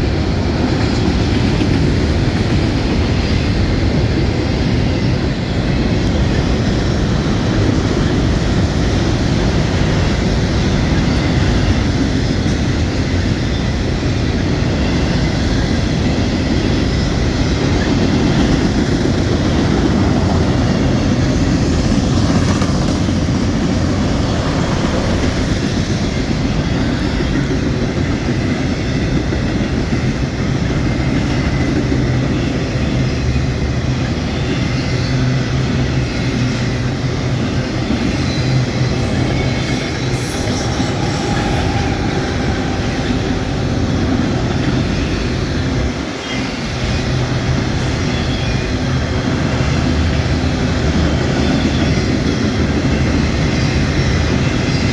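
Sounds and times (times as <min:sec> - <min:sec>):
diesel locomotive engine hum: 0:00.0 - 0:54.9
train wheels rumbling on rails: 0:00.0 - 0:54.9
wind buffeting microphone: 0:00.0 - 0:54.9.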